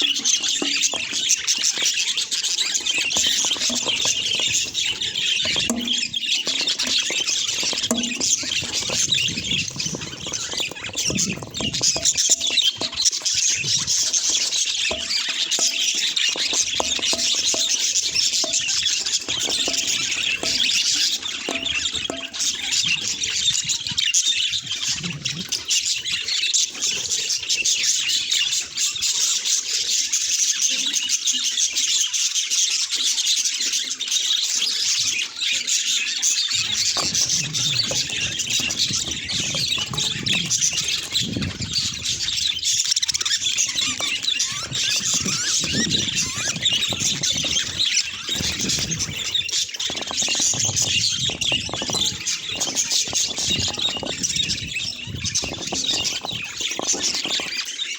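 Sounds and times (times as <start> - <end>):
budgerigars chattering and chirping: 0.0 - 57.9.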